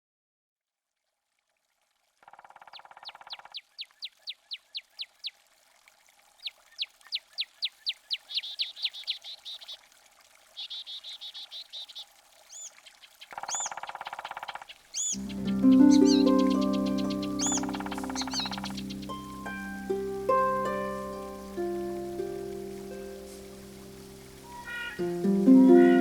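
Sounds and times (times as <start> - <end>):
songbird singing: 2.3 - 5.4, 6.4 - 9.8, 10.6 - 26.0.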